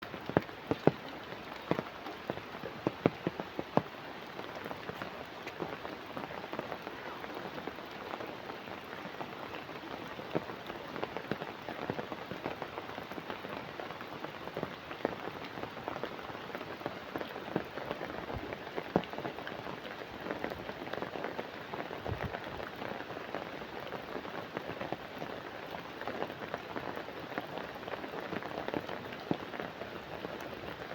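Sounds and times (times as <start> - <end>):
rain falling on a pond: 0.0 - 30.9.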